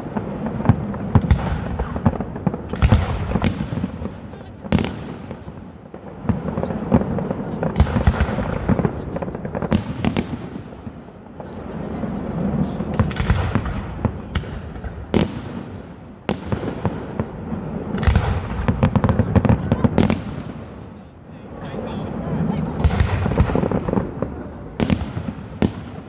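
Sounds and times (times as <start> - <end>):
fireworks crackling: 0.0 - 26.0
fireworks sharp bangs: 0.0 - 26.0.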